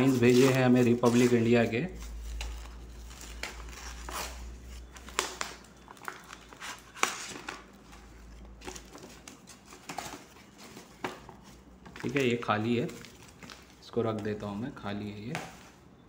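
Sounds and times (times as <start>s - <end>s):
paper envelope rustling: 0.0s - 14.6s.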